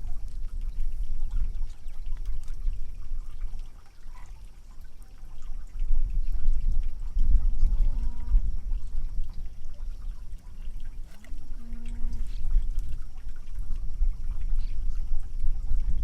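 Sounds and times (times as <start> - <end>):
calves slurping water: 0.0 - 16.0
water trickling and splashing: 0.0 - 16.0.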